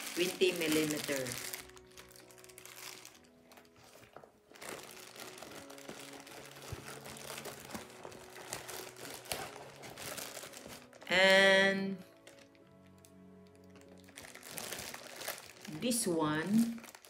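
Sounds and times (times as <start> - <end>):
plastic packaging crinkling: 0.0 - 11.2, 12.0 - 17.0
soft background music: 0.0 - 17.0.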